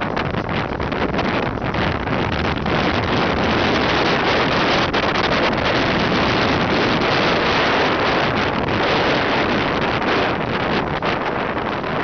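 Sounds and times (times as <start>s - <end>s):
water rushing along hull: 0.0s - 12.0s
wind blowing across microphone: 0.0s - 12.0s.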